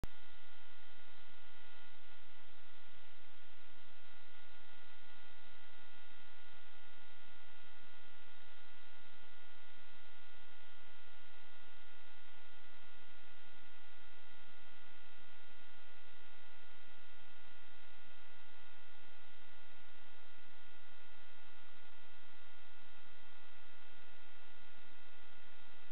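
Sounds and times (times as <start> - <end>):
electronic hum and hiss: 0.0 - 25.9.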